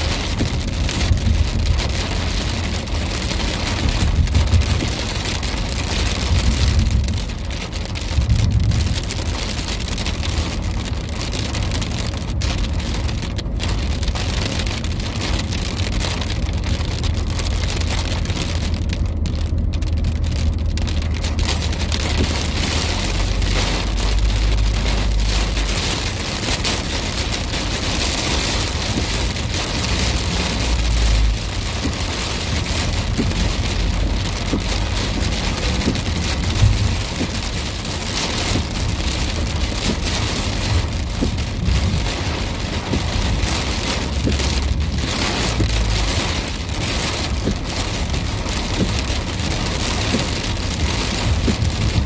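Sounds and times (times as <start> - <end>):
car road rumble: 0.0 - 52.0
rain on a car windshield: 0.0 - 52.0.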